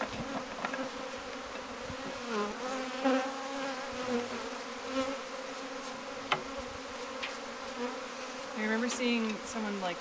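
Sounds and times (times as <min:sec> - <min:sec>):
honeybees buzzing: 0:00.0 - 0:10.0
single bee buzzing past: 0:00.0 - 0:10.0.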